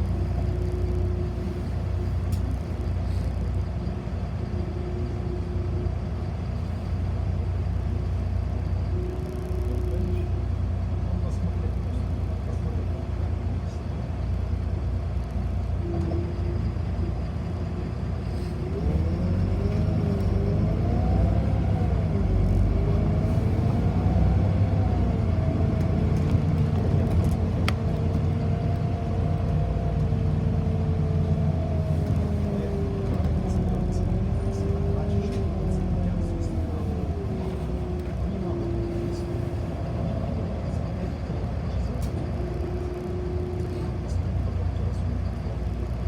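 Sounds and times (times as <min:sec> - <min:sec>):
bus engine rumble: 0:00.0 - 0:46.0
bus whine rising and falling: 0:00.0 - 0:46.0.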